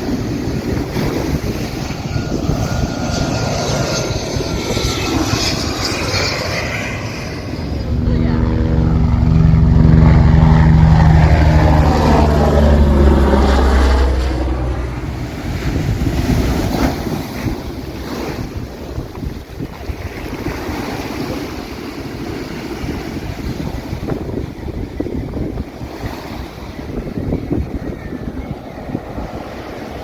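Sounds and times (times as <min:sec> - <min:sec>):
airliner engine drone overhead: 0:00.0 - 0:30.0
surf: 0:00.0 - 0:30.0
wind buffeting microphone: 0:00.0 - 0:30.0.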